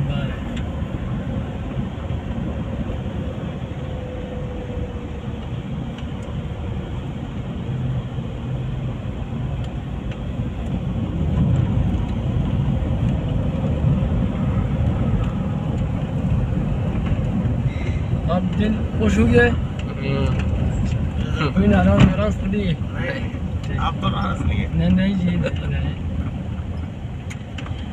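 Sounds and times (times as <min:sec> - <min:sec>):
car engine and tyre rumble: 0:00.0 - 0:27.9.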